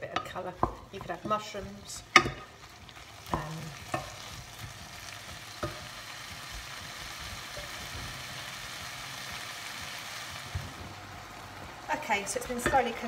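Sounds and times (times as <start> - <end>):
food sizzling in a saucepan: 0.0 - 13.0.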